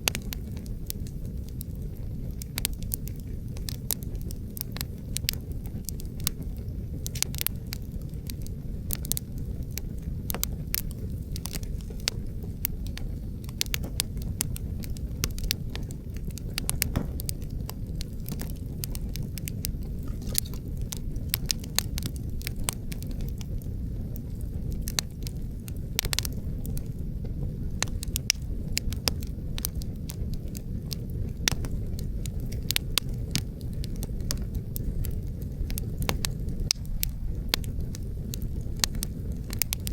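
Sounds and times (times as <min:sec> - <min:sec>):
burning logs popping: 0:00.0 - 0:39.9
low rumble of wind: 0:00.0 - 0:39.9
wood fire crackling: 0:00.0 - 0:39.9.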